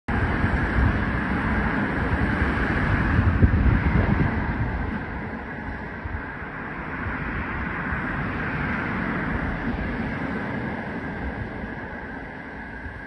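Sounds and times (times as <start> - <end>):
distant train rumble and hiss: 0.1 - 13.0
wind buffeting microphone: 0.1 - 13.0.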